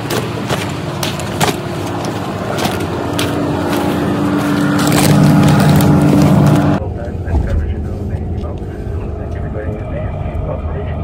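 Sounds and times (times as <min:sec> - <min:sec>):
bus engine and road drone: 0:00.0 - 0:11.0.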